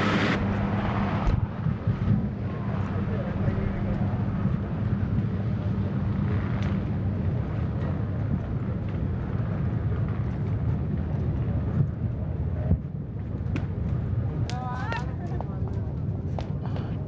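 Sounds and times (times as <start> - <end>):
helicopter rotor drone: 0.0 - 17.0.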